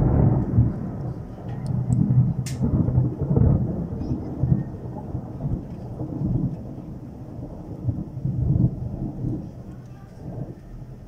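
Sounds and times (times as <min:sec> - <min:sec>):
rain: 0:00.0 - 0:11.0
thunder rumbling: 0:00.0 - 0:11.0.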